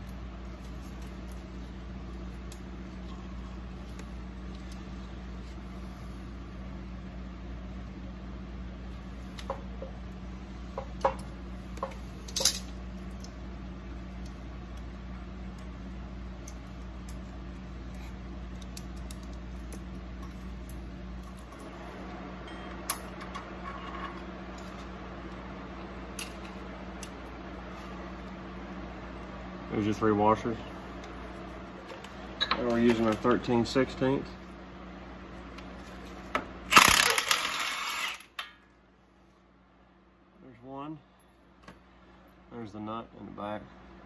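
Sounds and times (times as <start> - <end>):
low background hum: 0.0 - 44.0.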